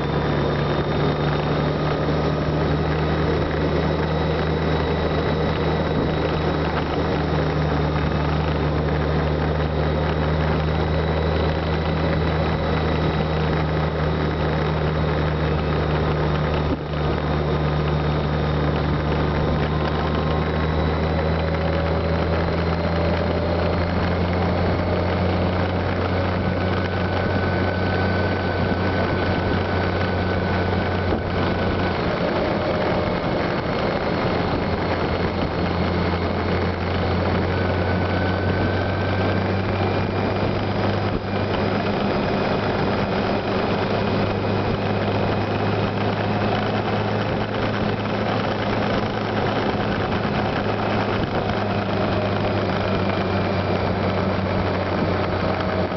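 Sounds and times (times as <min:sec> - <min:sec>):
motorcycle engine humming: 0:00.0 - 0:55.9
wind and road noise: 0:00.0 - 0:55.9.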